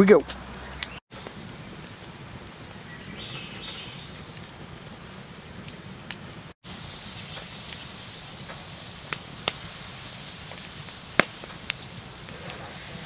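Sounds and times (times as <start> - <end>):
campfire crackling and popping: 0.3 - 13.0.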